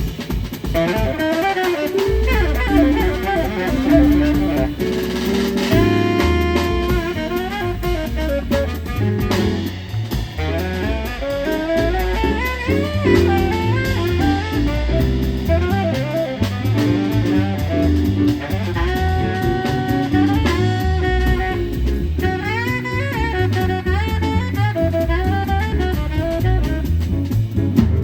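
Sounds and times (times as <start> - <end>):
keyboard: 0.0 - 26.6
bass: 0.0 - 28.0
drum kit: 0.0 - 28.0
saxophone melodic runs: 0.6 - 27.1.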